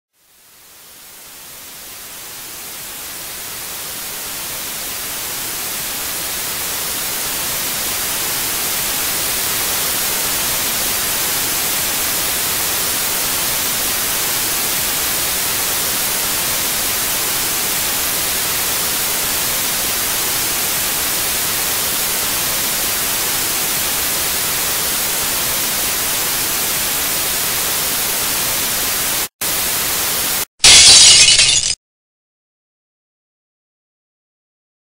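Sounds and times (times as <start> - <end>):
television static hiss: 0.2 - 31.6.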